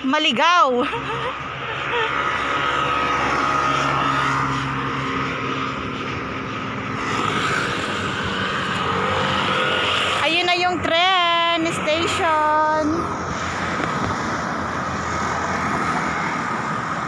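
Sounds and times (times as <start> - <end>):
steady traffic noise: 0.0 - 17.0
vehicle engine running close by: 0.0 - 17.0.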